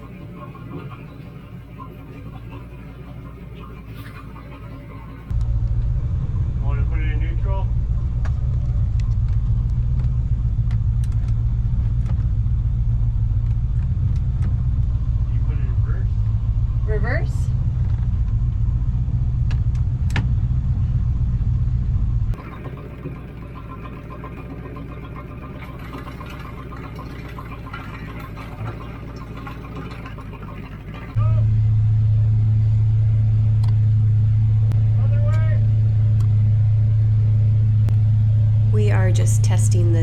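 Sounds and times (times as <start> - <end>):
boat engine idling: 0.0 - 40.0.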